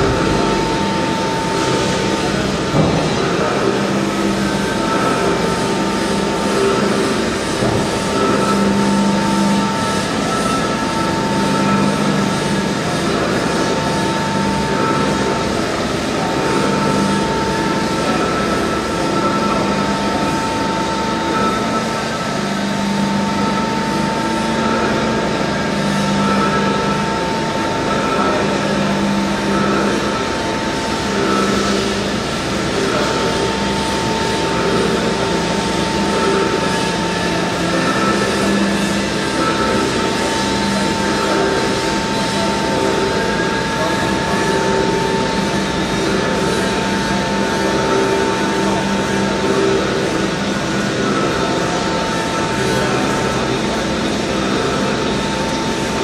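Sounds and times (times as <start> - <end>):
continuous rumble: 0.0 - 56.0
turntable drive whine: 0.0 - 56.0.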